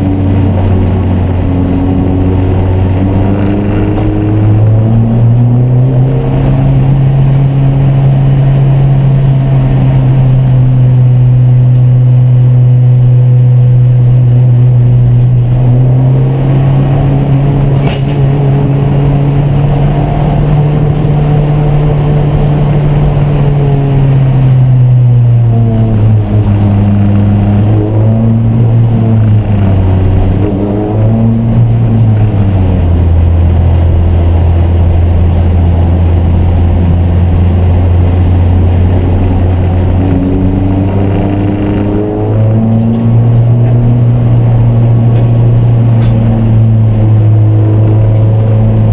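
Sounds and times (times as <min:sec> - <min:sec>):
race car engine running hard: 0:00.0 - 0:48.9.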